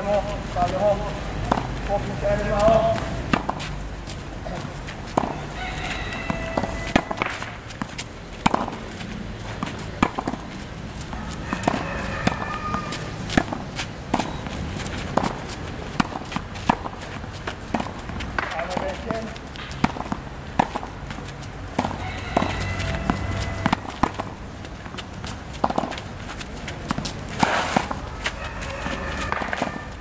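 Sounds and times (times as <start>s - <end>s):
tennis balls bouncing on court: 0.0s - 30.0s
tennis balls struck by rackets: 0.0s - 30.0s.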